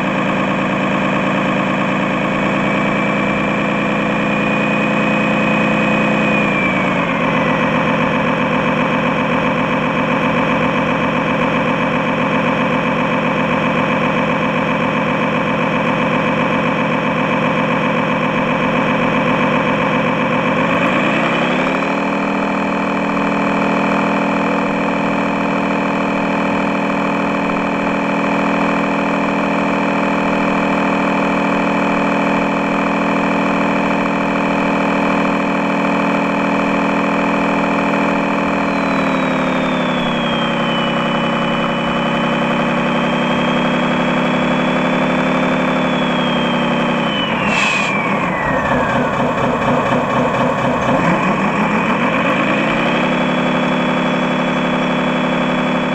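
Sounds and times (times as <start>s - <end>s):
diesel engine idling sound module: 0.0s - 55.9s.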